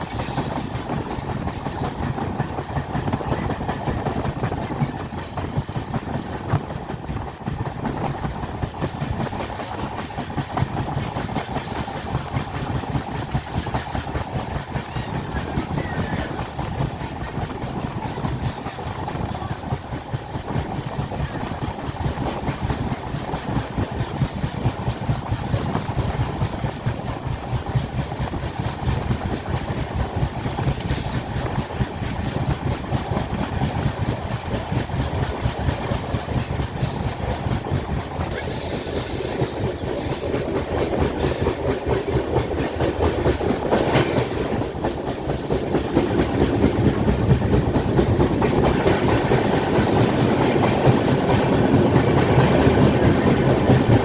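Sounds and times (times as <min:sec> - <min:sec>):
train rumble: 0:00.0 - 0:54.0
train wheels clickety-clack: 0:00.0 - 0:54.0.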